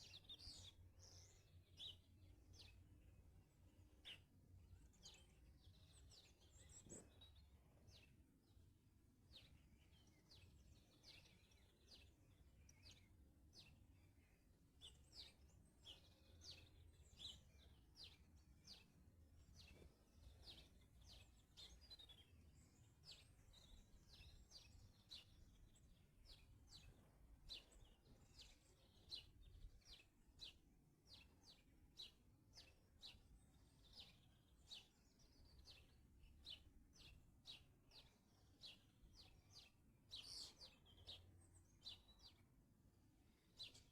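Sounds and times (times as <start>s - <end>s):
garden birds chirping: 0.0s - 43.9s.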